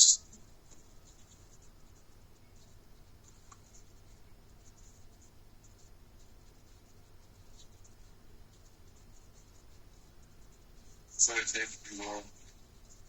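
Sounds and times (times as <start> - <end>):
faint low hum: 0.0 - 13.0
soft scratchy ticks: 0.3 - 13.0.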